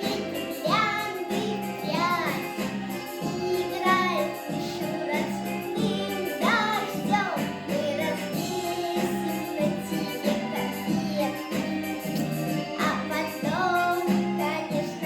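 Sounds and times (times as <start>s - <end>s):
backing track with pulsing beat: 0.0s - 15.0s
child singing: 0.0s - 15.0s.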